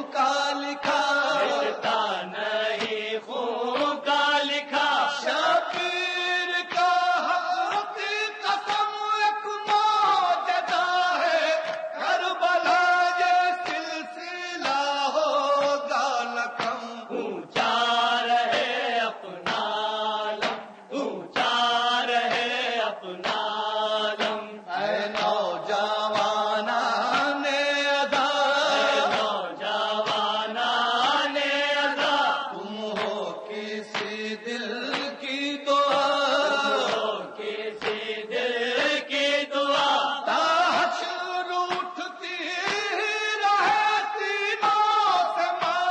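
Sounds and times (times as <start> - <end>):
person chanting a lament: 0.0 - 45.9.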